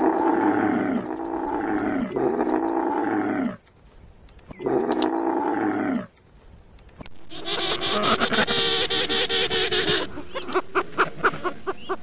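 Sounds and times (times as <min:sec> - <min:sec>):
camel calling: 0:00.0 - 0:03.6, 0:04.5 - 0:06.2, 0:07.1 - 0:12.0.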